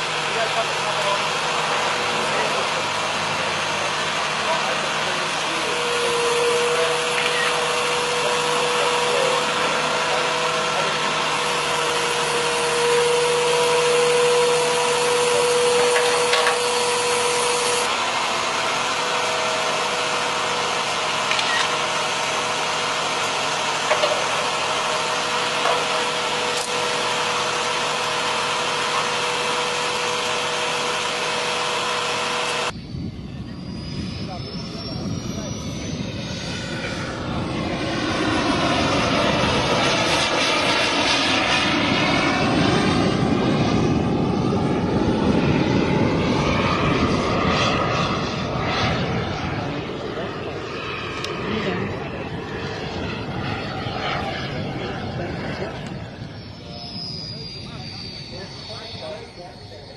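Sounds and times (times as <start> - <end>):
engine droning whine: 0.0 - 59.9.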